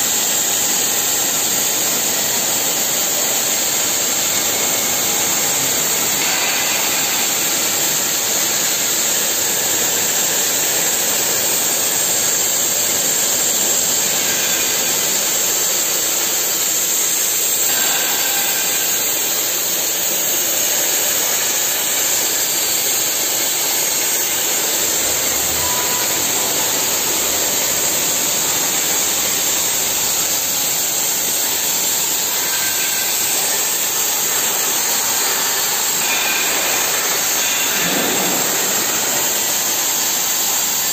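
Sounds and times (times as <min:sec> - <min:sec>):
plasma torch hissing: 0:00.1 - 0:40.9.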